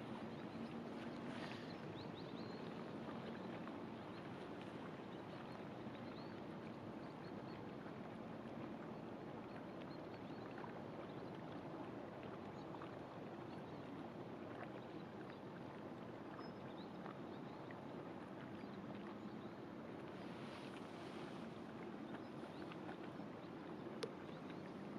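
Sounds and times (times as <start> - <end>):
water noise: 0.0 - 24.9.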